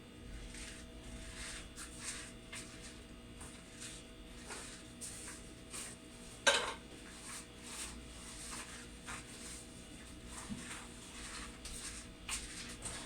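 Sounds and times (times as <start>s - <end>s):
refrigerator humming: 0.0s - 13.0s.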